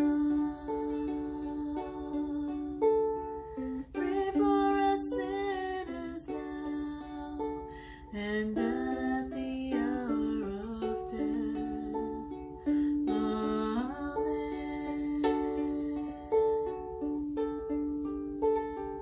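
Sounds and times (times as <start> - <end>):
ukulele played gently: 0.0 - 19.0.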